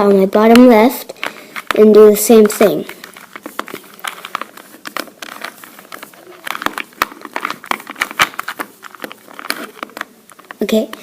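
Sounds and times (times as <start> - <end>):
plastic cube clicking and rattling: 0.5 - 11.0.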